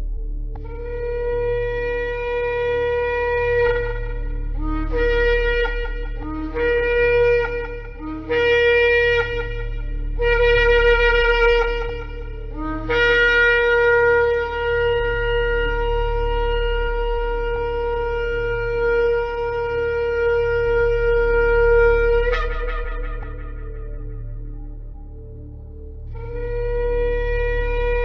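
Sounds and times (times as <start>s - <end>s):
low steady drone: 0.0s - 28.0s
shofar blasts: 0.6s - 25.4s, 26.1s - 28.0s.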